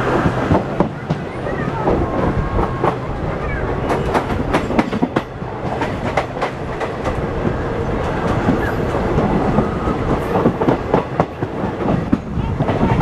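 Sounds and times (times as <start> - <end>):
train wheels clacking on rails: 0.0 - 13.0.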